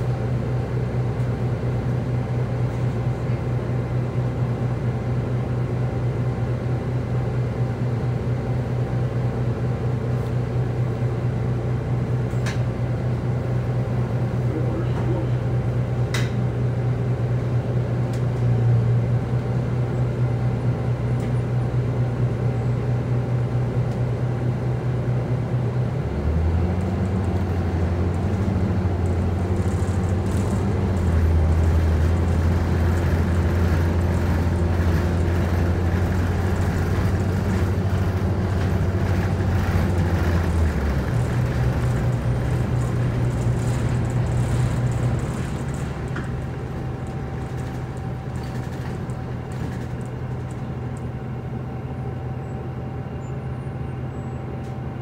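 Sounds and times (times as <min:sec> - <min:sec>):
bus accelerating: 0:00.0 - 0:55.0
bus engine idling: 0:00.0 - 0:55.0.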